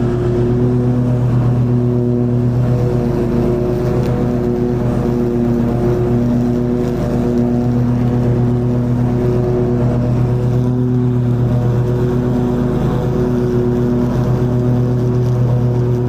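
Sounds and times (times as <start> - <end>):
lawn mower running: 0.0 - 16.0.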